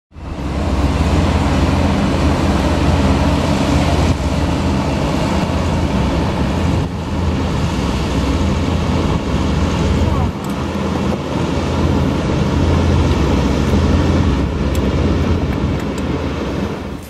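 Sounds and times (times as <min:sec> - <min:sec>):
hovercraft engine drone: 0:00.1 - 0:17.0.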